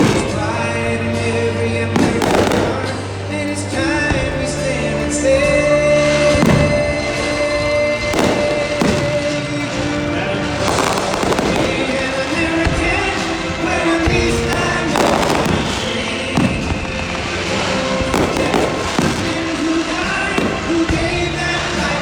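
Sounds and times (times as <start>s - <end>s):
fireworks booming and crackling: 0.0s - 22.0s
music: 0.0s - 22.0s.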